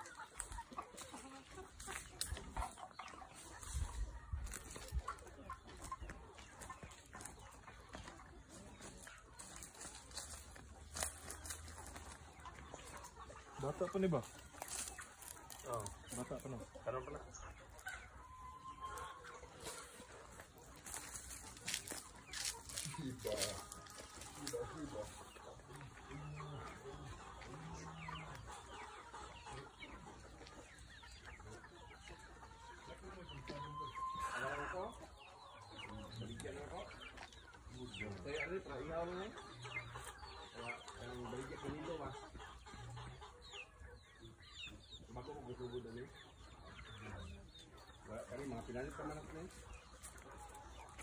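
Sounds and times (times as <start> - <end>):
chicken chirps: 0.0 - 51.0
chickens clucking: 0.0 - 51.0.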